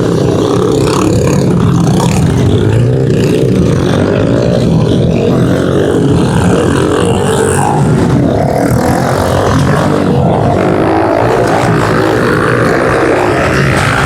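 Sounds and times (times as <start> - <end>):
pit bike engines racing: 0.0 - 14.0.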